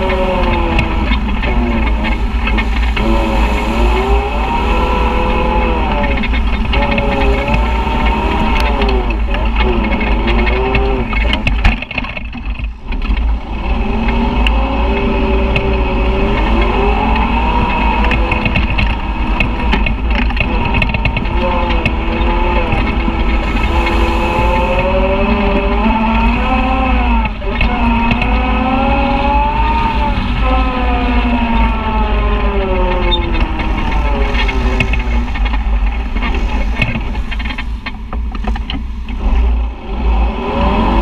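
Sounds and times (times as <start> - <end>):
utv engine running: 0.0 - 41.0.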